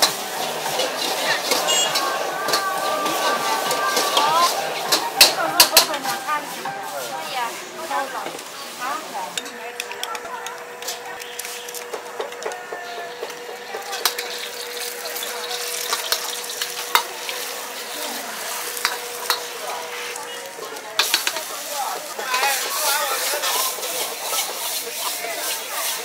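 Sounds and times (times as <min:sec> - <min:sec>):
ladle clanking against wok: 0:00.0 - 0:06.9, 0:09.3 - 0:26.0
food sizzling in oil: 0:00.0 - 0:09.6, 0:13.2 - 0:26.0.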